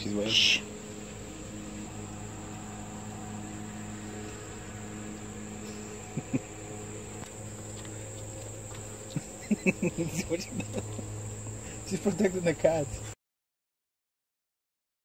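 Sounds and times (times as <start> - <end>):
insects chirring: 0.0 - 13.2
low steady hum: 0.0 - 13.2.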